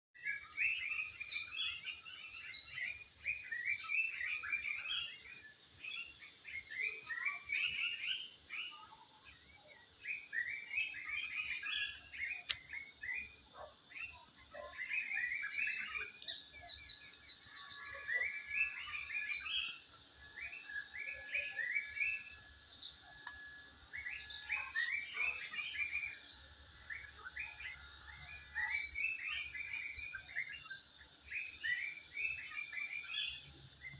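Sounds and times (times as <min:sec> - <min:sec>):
songbirds chirping and singing: 0:00.2 - 0:33.9.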